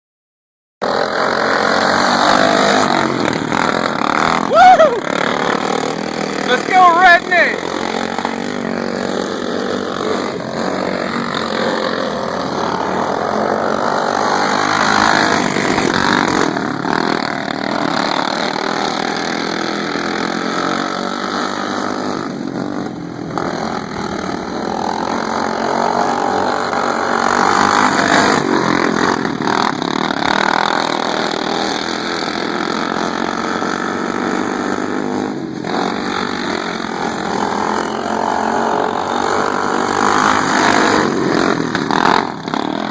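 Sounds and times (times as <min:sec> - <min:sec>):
racing lawn mower engines: 0:00.8 - 0:42.9.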